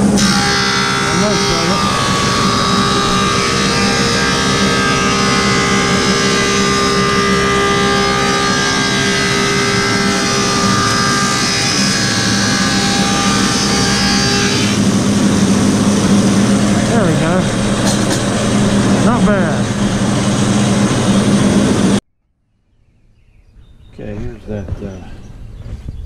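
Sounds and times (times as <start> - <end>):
high ringing cutterhead whine: 0.0 - 22.0
wood planer running: 0.0 - 22.0.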